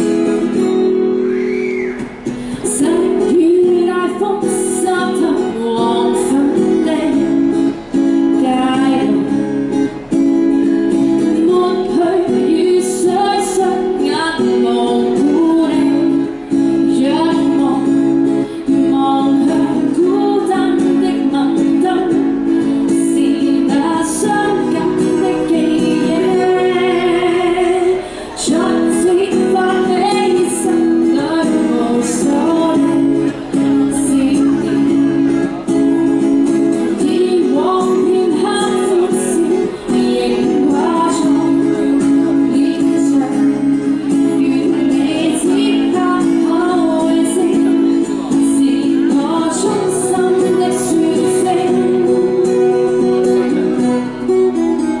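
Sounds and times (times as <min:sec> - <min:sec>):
strummed acoustic guitar: 0:00.0 - 0:55.0
woman singing pop song: 0:02.2 - 0:09.7, 0:10.9 - 0:54.0.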